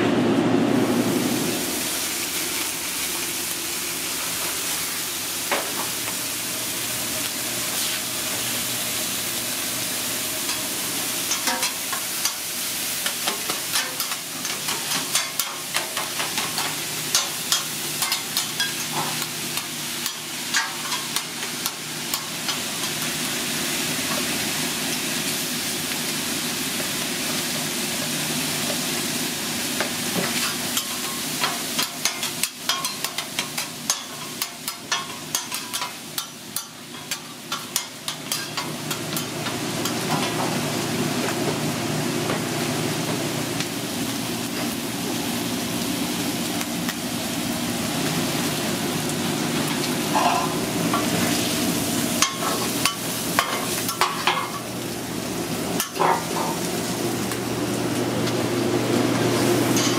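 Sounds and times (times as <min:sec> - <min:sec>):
meat sizzling on griddle: 0:01.1 - 0:59.9.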